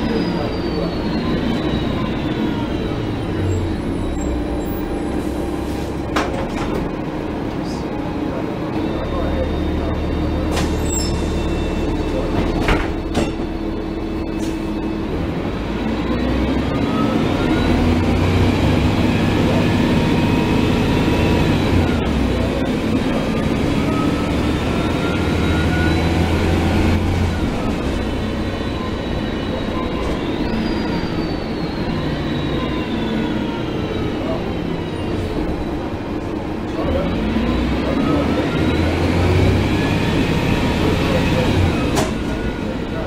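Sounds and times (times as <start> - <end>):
bus accelerating with whine: 0.0 - 43.0.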